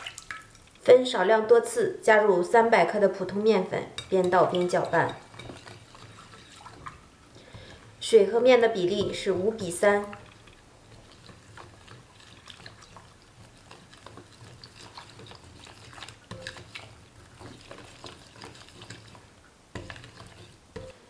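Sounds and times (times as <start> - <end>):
soft wet stirring: 0.0 - 1.8, 3.2 - 21.0.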